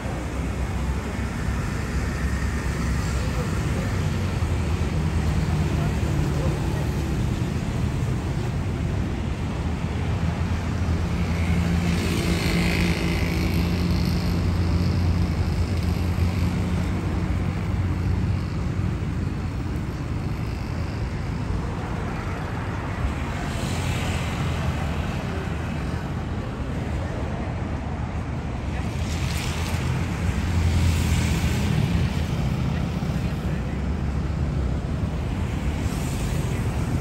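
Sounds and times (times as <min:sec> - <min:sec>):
traffic engine rumble: 0:00.0 - 0:37.0
tyre hiss of passing vehicles: 0:00.0 - 0:37.0.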